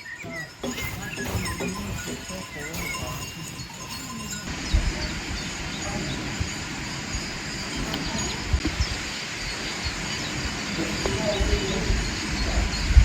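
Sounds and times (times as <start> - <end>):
bird chirps: 0.0 - 13.0
wind noise on microphone: 1.2 - 13.0.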